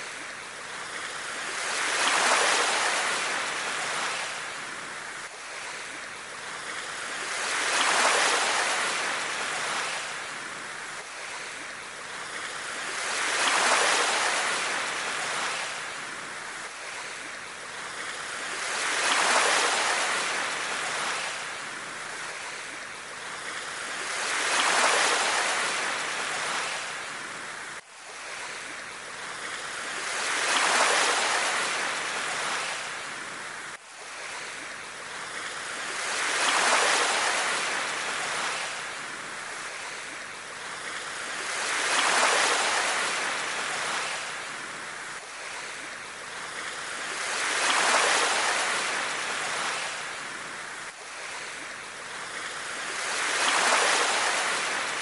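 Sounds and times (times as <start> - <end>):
small waves washing on sand: 0.0 - 55.0.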